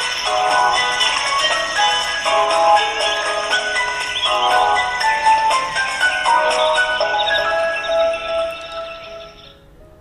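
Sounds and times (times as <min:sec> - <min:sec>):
alarm ringtone melody: 0:00.0 - 0:09.7.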